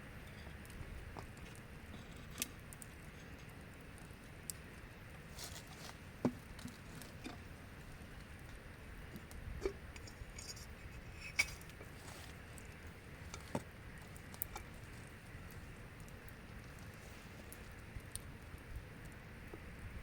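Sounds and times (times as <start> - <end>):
light rain pattering: 0.0 - 20.0.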